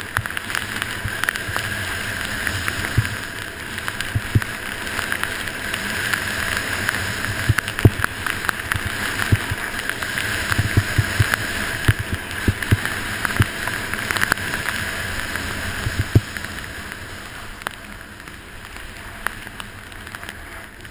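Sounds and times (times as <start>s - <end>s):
skis thumping over bumps: 0.0s - 17.0s
skis hissing over snow: 0.0s - 20.9s.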